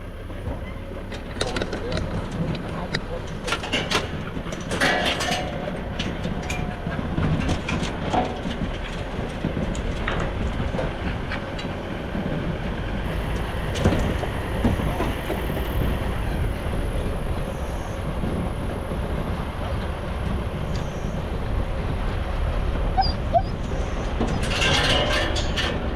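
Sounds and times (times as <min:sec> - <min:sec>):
vehicle driving on rough track: 0:00.0 - 0:25.9.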